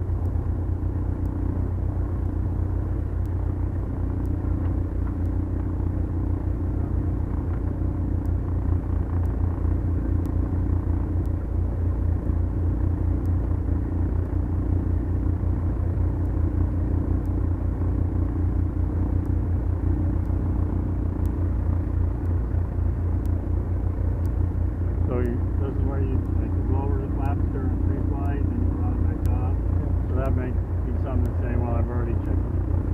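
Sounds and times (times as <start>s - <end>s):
aircraft engines droning: 0.0s - 32.9s.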